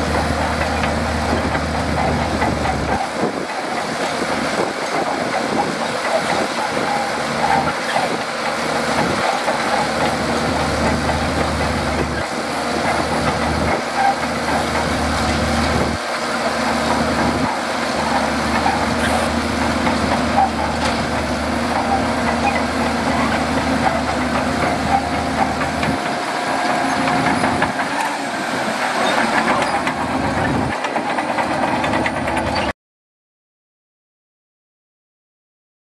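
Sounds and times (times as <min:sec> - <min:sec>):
bulldozer tracks moving: 0:00.0 - 0:32.7
bulldozer diesel engine under load: 0:00.0 - 0:32.8.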